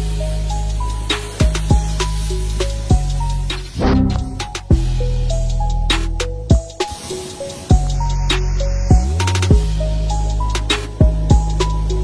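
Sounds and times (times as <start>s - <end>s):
background music with a beat: 0.0s - 12.0s.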